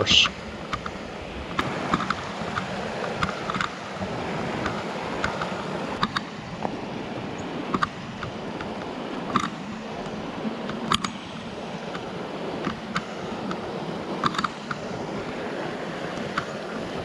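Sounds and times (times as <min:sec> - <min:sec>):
creek rushing: 0:00.0 - 0:17.0.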